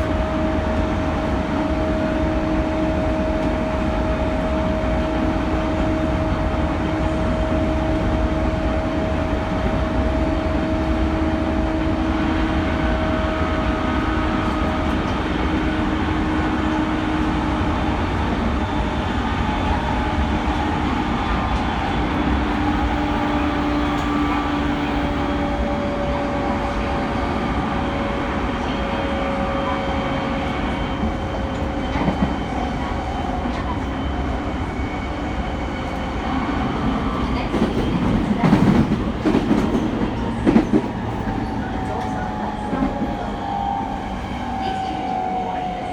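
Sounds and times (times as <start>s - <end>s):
wheels rumbling on track: 0.0s - 45.9s.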